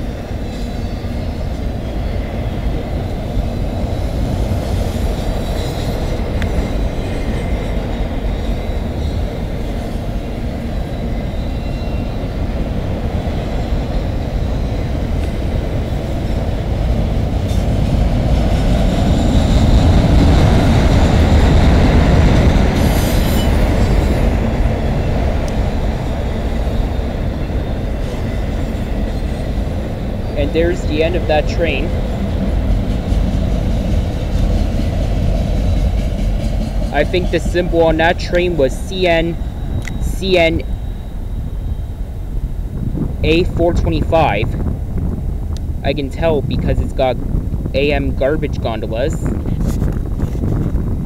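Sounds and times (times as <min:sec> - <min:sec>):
train wheel squeal: 0:00.0 - 0:43.4
freight train rumbling past: 0:00.0 - 0:51.0.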